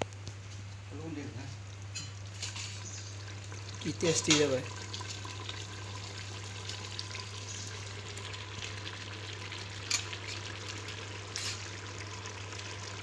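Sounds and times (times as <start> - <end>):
curry sizzling in a pot: 1.7 - 13.0.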